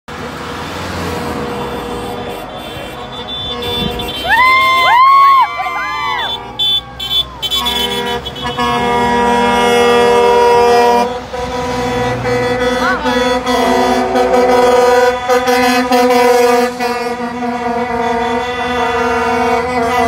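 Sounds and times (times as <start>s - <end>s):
truck air horns blasting: 0.9s - 20.0s.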